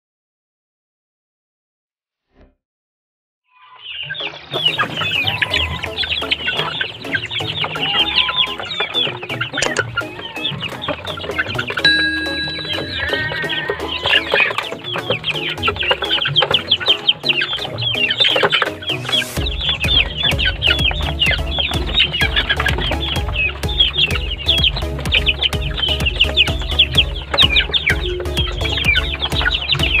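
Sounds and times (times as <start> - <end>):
chickens peeping and clucking: 3.6 - 30.0
background music with bass beat: 4.6 - 30.0.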